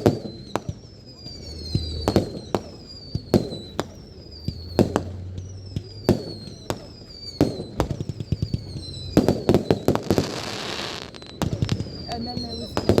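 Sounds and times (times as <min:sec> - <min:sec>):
fireworks bangs and crackling: 0:00.0 - 0:13.0
fireworks whistles: 0:00.0 - 0:13.0.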